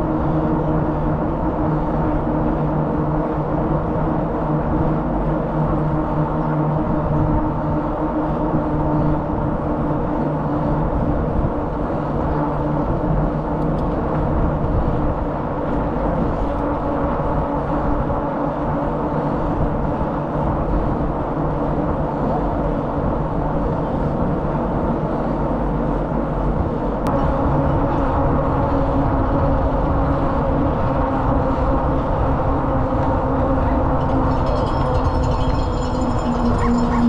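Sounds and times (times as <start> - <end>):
bicycle tyres humming on asphalt: 0.0 - 37.0
wind on microphone: 0.0 - 37.0.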